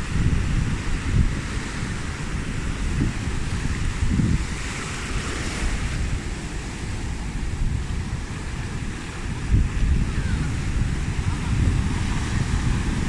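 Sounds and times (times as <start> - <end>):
sea surf washing on beach: 0.0 - 13.0
wind buffeting microphone: 0.0 - 13.0.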